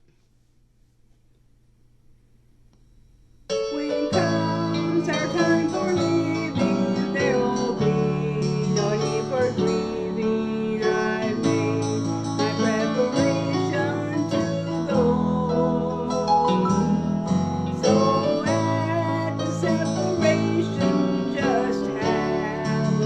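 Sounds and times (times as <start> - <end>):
song with guitar: 3.5 - 23.0.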